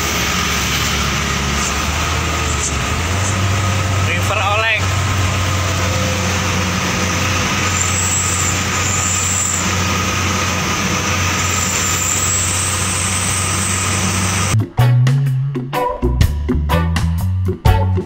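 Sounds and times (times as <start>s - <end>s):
road and wind noise: 0.0s - 14.6s
truck engine running: 0.0s - 15.0s.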